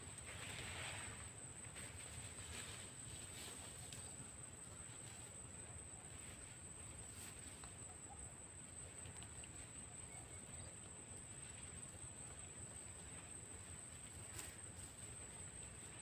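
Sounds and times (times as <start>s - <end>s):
steady high-pitched whine: 0.0s - 16.0s.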